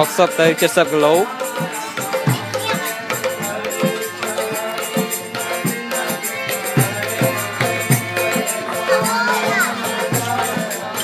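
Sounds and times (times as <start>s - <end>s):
held melodic notes: 0.0s - 11.0s
rattling percussion: 0.0s - 11.0s
steady drum beat: 0.0s - 11.0s.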